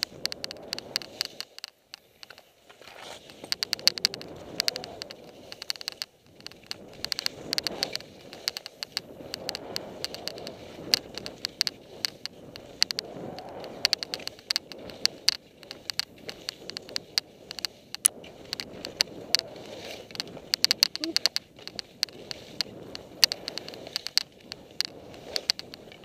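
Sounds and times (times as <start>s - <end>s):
sharp clicks and ticks: 0.0s - 26.0s
skis swishing through snow: 0.1s - 26.0s.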